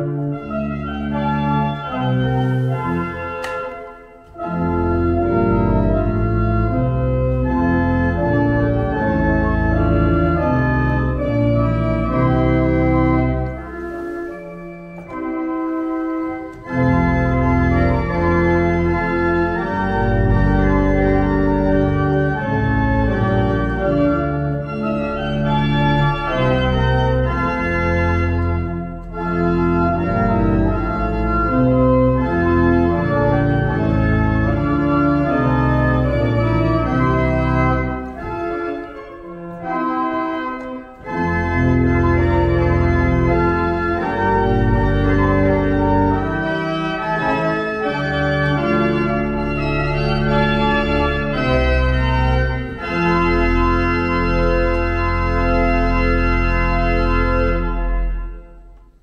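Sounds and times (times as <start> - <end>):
pipe organ playing chords: 0.0 - 59.0.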